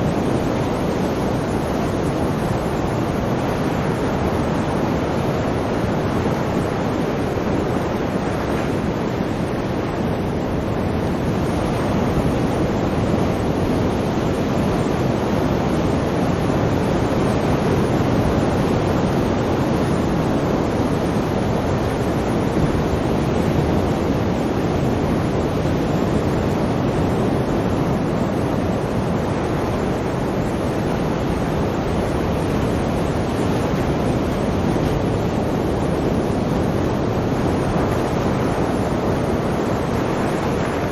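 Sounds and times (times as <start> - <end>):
sea waves washing on shore: 0.0 - 40.9.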